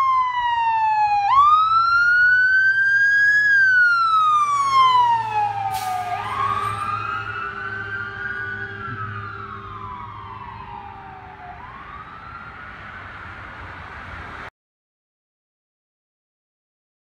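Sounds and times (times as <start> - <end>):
ambulance siren wailing: 0.0 - 14.5
low engine hum: 0.0 - 14.5.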